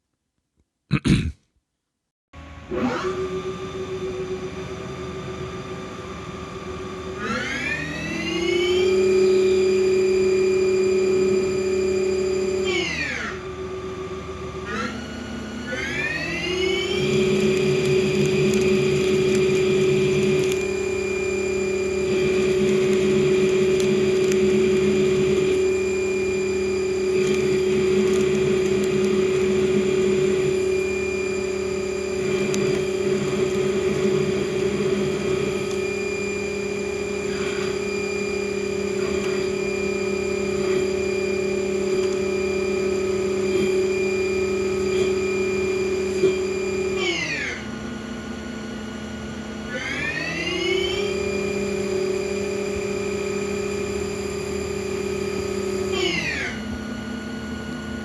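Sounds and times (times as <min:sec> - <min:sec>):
lathe spindle whine: 0:02.8 - 0:58.0.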